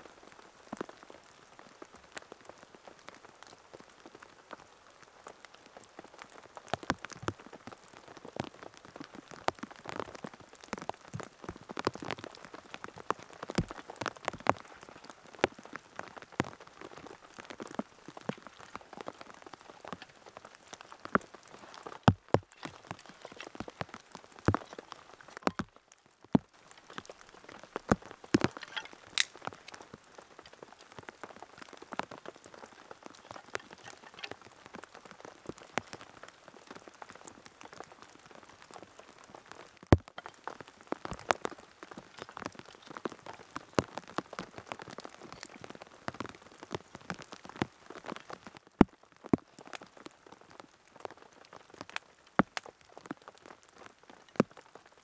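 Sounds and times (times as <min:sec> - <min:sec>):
raindrops tapping close by: 0:00.0 - 0:55.0
steady rain: 0:00.0 - 0:55.0.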